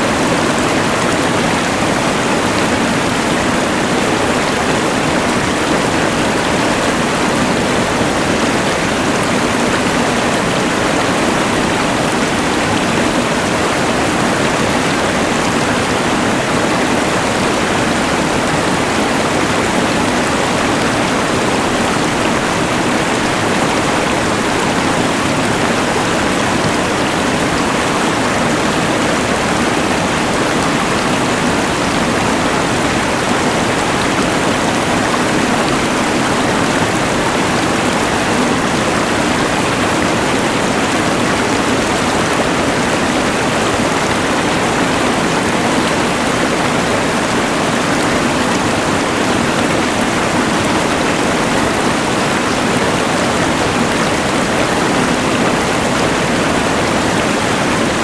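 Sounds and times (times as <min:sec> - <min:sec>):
rushing river: 0:00.0 - 0:58.0.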